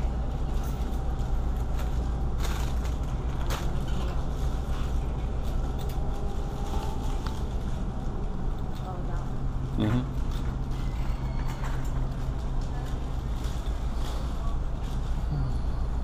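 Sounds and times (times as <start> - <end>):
refrigeration hum and rumble: 0.0 - 16.0.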